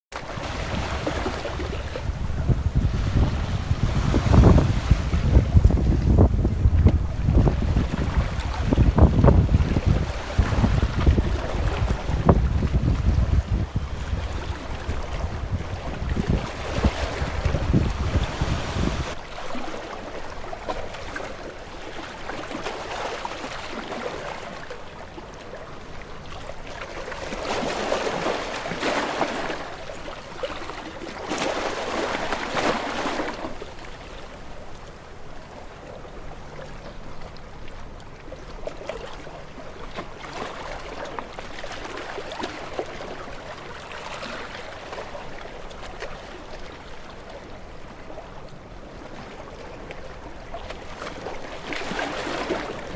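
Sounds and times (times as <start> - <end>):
water splashing and flowing: 0.1 - 52.9.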